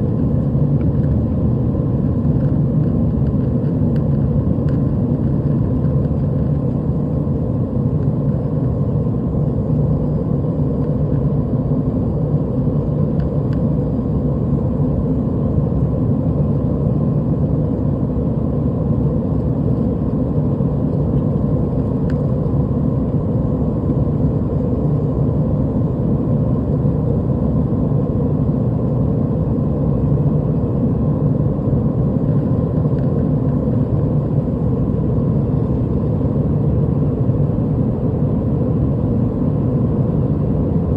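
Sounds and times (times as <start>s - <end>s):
airliner cabin noise: 0.0s - 40.9s.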